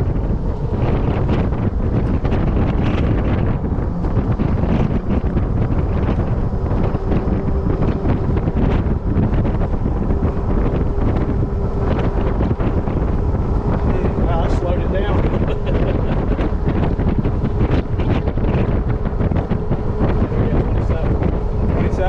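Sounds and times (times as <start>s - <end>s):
low rumble of moving cart: 0.0s - 22.0s
wind buffeting microphone: 0.0s - 22.0s.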